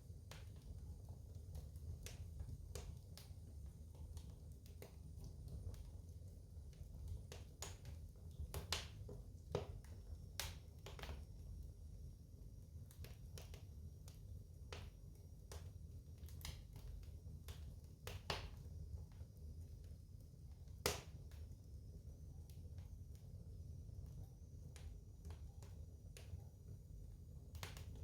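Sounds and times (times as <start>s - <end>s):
low rumble of flames: 0.0s - 28.0s
wood fire crackling and popping: 0.1s - 28.0s.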